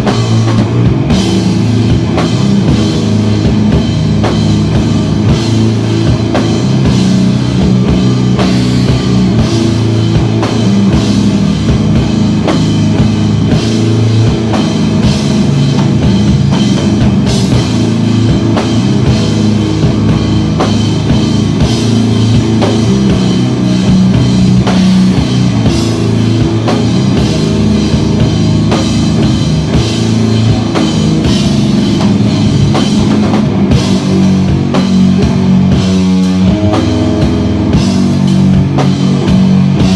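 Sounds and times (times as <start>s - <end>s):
drum kit beat: 0.0s - 39.9s
live rock band: 0.0s - 39.9s.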